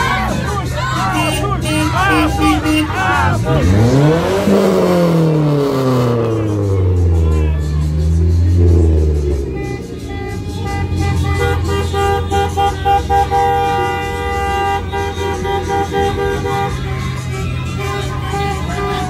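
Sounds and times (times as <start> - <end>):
car engines running: 0.0 - 19.0
car horns honking: 0.0 - 19.0.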